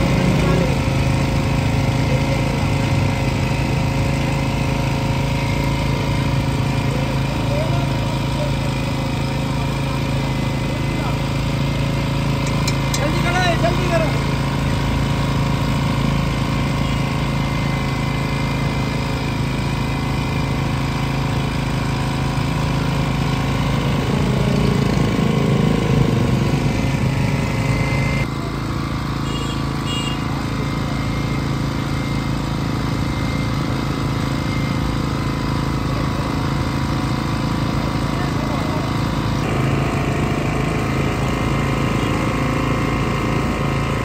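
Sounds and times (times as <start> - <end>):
engine running steadily: 0.0 - 44.0.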